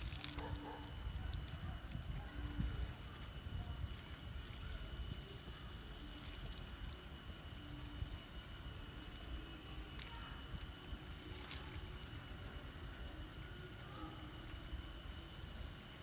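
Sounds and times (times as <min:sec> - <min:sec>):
low wind rumble on microphone: 0:00.0 - 0:16.0
water trickling from hose onto concrete: 0:00.0 - 0:16.0.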